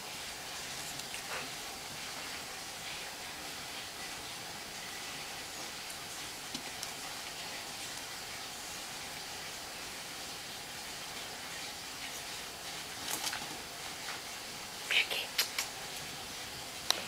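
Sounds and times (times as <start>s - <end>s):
room hiss: 0.0s - 17.0s.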